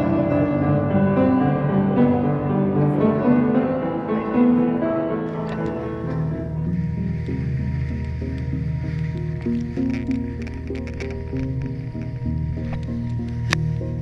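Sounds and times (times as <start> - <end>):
piano run over low chords: 0.0 - 14.0.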